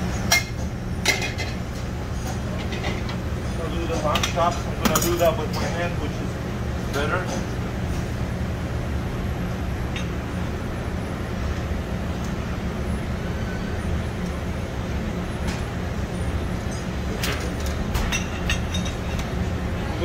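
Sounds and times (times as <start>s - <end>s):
kitchen ventilation drone: 0.0s - 20.0s.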